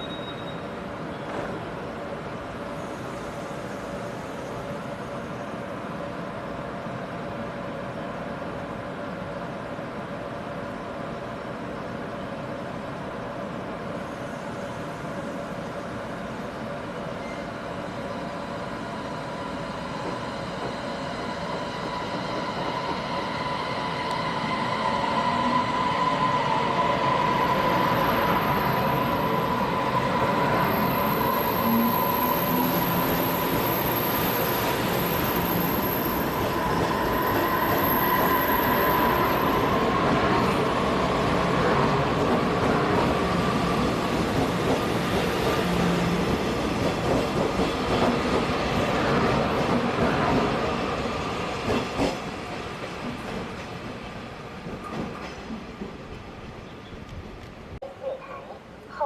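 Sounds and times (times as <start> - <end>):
train running on tracks: 0.0 - 59.0.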